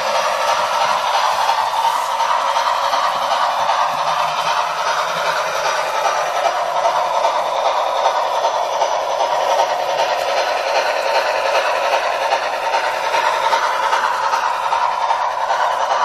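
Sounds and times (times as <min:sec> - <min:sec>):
model steam engine sounds from speaker: 0:00.0 - 0:16.0
model train running on track: 0:00.0 - 0:16.0.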